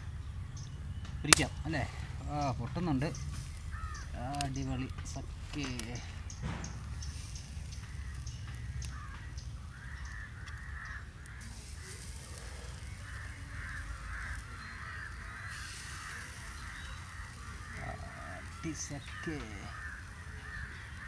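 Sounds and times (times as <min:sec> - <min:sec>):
crows cawing: 0:00.0 - 0:21.0
steady low rumble: 0:00.0 - 0:21.0.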